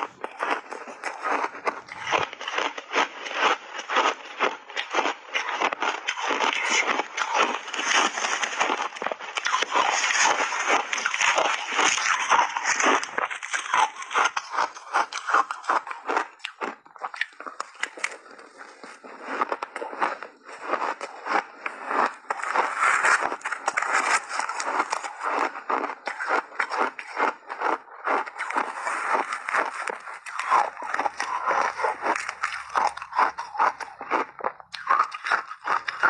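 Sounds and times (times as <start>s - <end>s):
chewing shaved ice: 0.0s - 36.0s.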